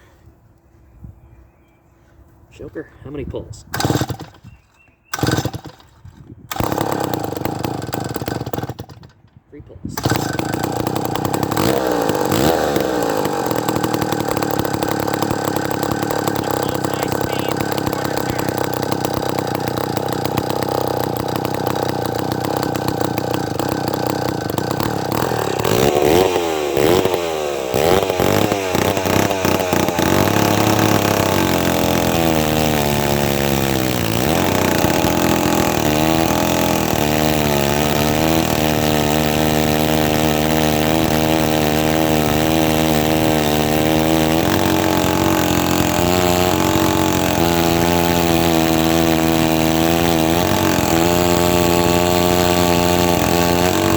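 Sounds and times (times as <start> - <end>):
chainsaw running and revving: 3.8 - 4.4, 5.1 - 9.2, 9.9 - 53.9.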